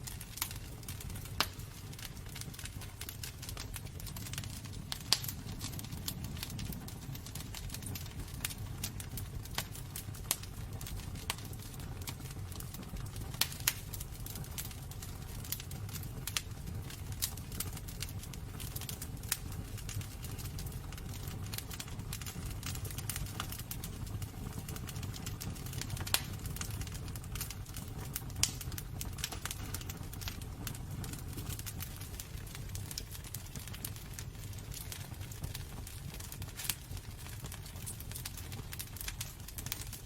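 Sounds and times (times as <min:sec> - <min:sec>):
low rumble of flames: 0:00.0 - 0:40.0
wood fire crackling and popping: 0:00.0 - 0:40.0.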